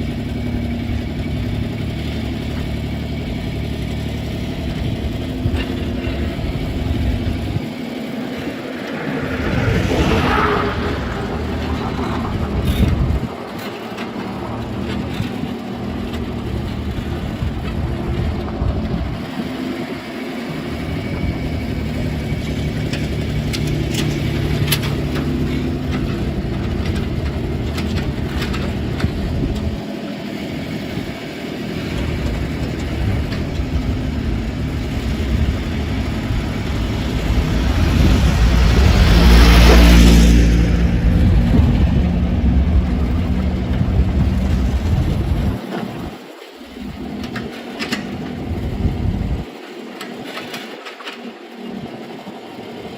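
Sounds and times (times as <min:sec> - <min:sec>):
diesel engine running: 0:00.0 - 0:50.6.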